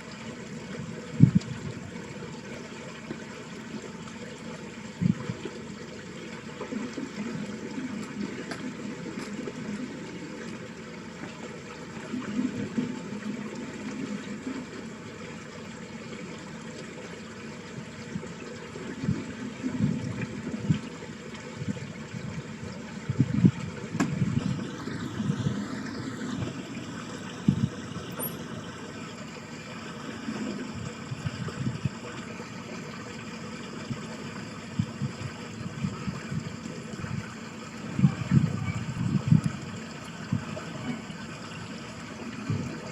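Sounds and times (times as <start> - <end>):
water running in a ditch: 0.0 - 42.9.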